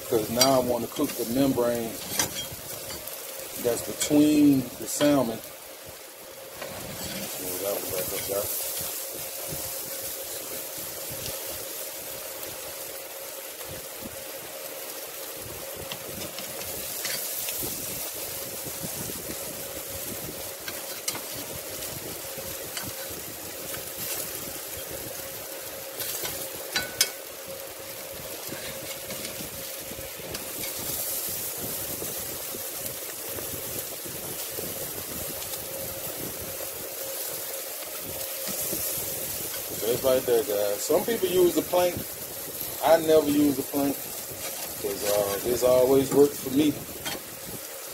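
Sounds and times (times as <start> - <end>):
fish sizzling on grill: 0.0 - 47.9
steady hum: 0.0 - 47.9.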